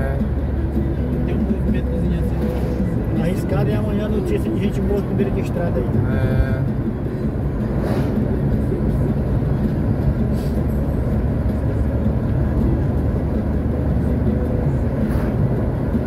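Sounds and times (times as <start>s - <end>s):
engine and tyre rumble in car: 0.0s - 16.0s.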